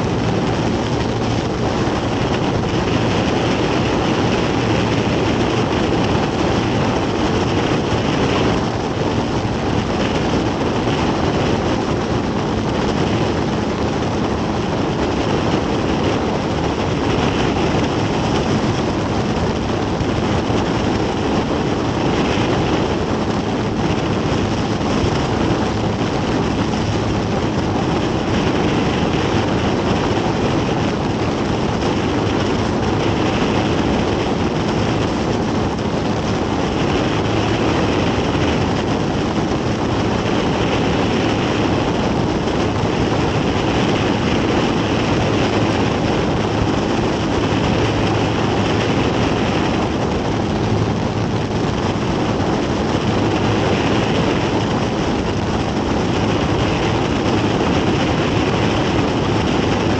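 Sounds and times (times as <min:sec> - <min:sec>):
propeller plane engine drone: 0:00.0 - 0:59.9
rushing wind noise: 0:00.0 - 0:59.9.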